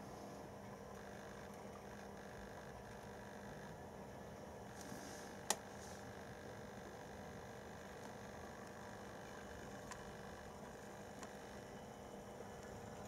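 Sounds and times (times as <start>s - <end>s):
model locomotive electric hum: 0.0s - 13.0s.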